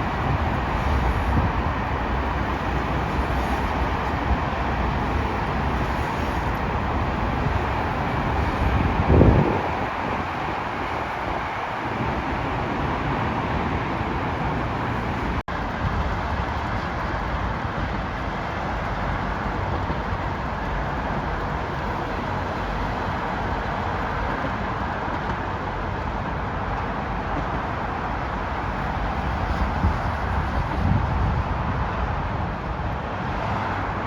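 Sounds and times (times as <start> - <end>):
train running: 0.0 - 34.0.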